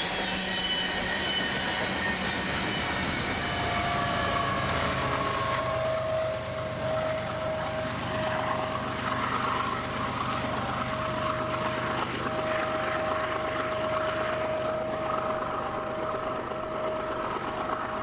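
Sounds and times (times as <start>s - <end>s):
thin steady whine: 0.0s - 18.0s
train rumble: 0.0s - 18.0s.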